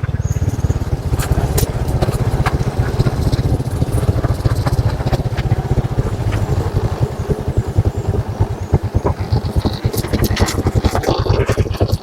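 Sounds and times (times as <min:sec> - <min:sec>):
motorcycle engine running: 0:00.0 - 0:12.0
sharp clicks: 0:00.0 - 0:12.0.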